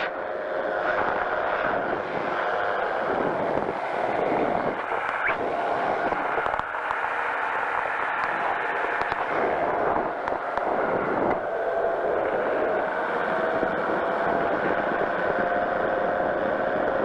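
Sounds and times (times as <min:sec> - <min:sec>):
engine and propeller droning: 0:00.0 - 0:17.0.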